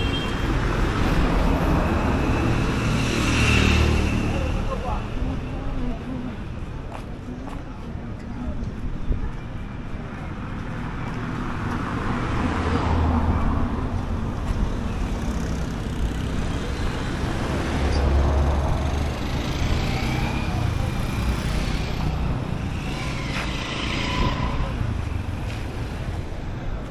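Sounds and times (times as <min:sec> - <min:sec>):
cars and motorcycles passing: 0:00.0 - 0:07.8, 0:09.3 - 0:26.9.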